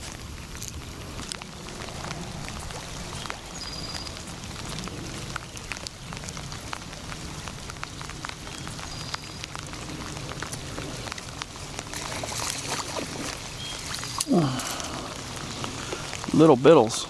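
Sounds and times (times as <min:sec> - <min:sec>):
low rumble of rain: 0:00.0 - 0:17.0
rain drops ticking: 0:00.0 - 0:17.0.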